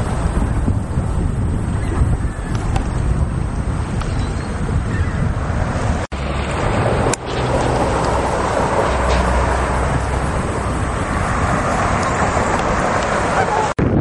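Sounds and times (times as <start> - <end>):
road traffic: 0.0 - 14.0
wind on microphone: 0.0 - 14.0.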